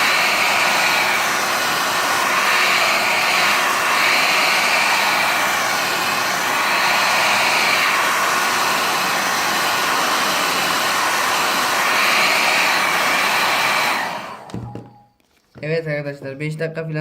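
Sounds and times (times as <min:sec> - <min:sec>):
hot-air blower hissing: 0:00.0 - 0:15.0.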